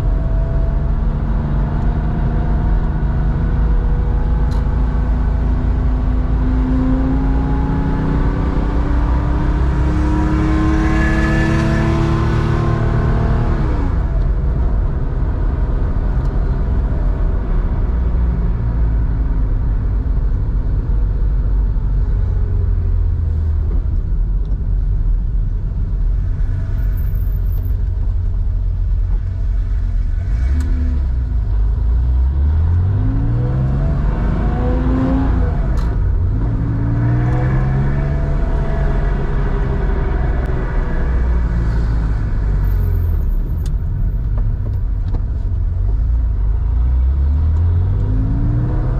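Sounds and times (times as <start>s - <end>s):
car engine revving while driving: 0.0s - 24.0s, 30.2s - 48.9s.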